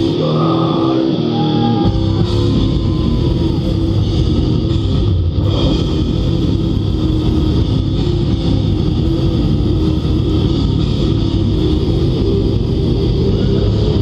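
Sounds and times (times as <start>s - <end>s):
death metal band playing: 0.0s - 14.0s.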